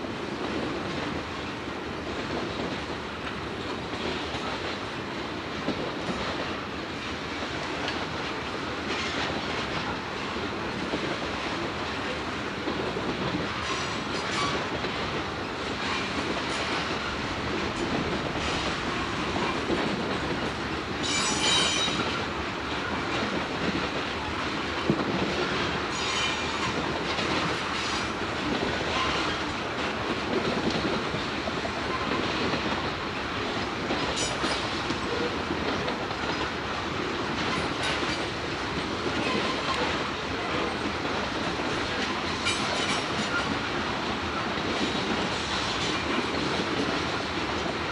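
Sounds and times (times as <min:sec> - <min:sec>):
steel wheels rolling on rail: 0:00.0 - 0:47.9.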